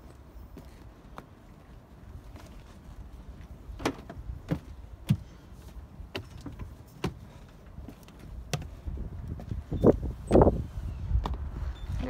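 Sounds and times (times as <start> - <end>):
footsteps on fibreglass steps: 0.0 - 11.7.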